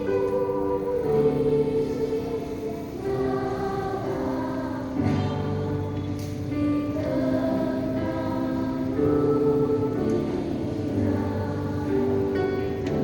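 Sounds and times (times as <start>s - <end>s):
children's choir singing a hymn: 0.0s - 13.0s.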